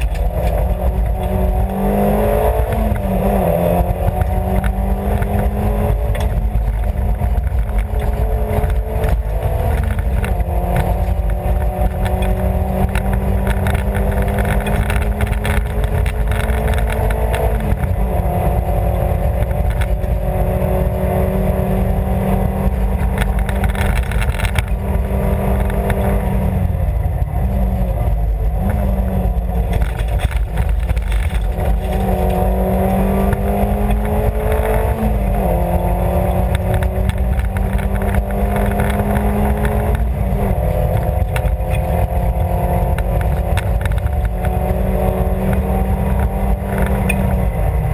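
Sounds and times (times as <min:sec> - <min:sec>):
rally car engine at high revs: 0:00.0 - 0:47.9
road noise: 0:00.0 - 0:47.9.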